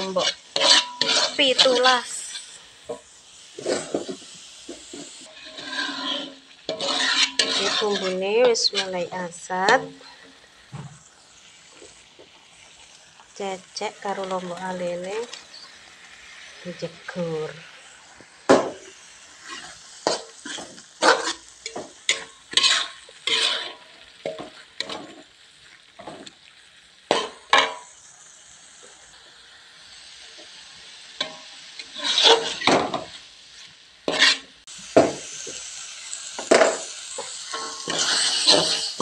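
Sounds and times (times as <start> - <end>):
metal spatula scraping wok: 0.0 - 12.7, 13.7 - 26.4, 27.1 - 28.0, 30.4 - 39.0
paste sizzling: 0.0 - 39.0.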